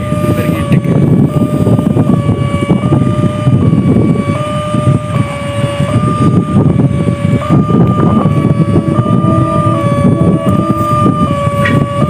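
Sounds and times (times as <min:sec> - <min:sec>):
level crossing two-tone alarm: 0:00.0 - 0:12.0
loud low rumbling: 0:00.0 - 0:12.0.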